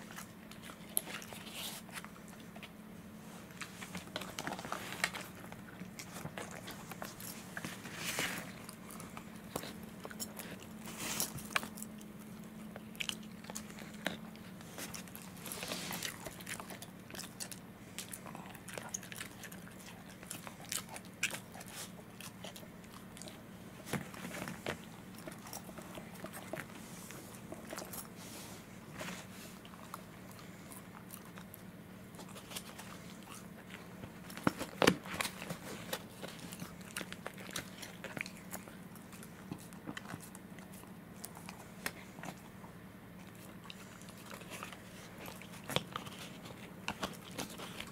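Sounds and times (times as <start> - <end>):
dog chewing rawhide: 0.0 - 47.9.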